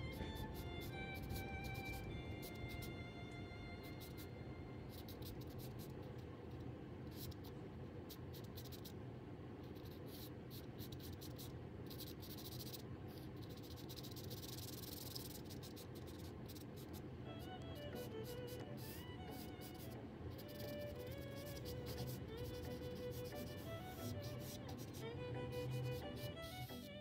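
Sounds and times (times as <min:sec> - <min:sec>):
charcoal scratching on paper: 0:00.0 - 0:02.9, 0:03.8 - 0:04.3, 0:04.9 - 0:06.2, 0:07.1 - 0:07.5, 0:08.1 - 0:09.0, 0:09.6 - 0:27.0.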